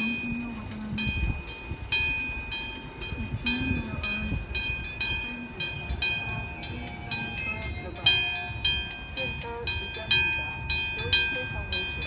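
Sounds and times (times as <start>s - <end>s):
railway crossing bell clanging: 0.0s - 12.0s.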